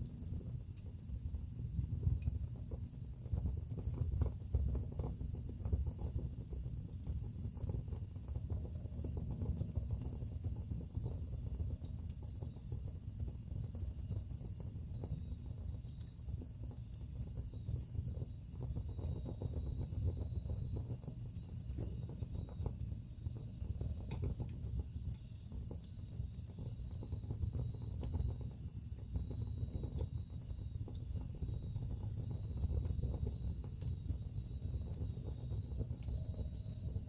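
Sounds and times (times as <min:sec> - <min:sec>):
fire flames rumbling: 0:00.0 - 0:37.0
wood fire crackling and popping: 0:00.0 - 0:37.0.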